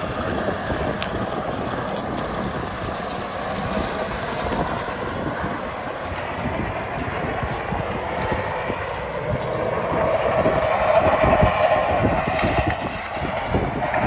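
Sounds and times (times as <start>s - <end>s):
steady whine: 0.0s - 14.0s
truck engines under load: 0.0s - 14.0s
tyres churning on snow: 0.0s - 14.0s.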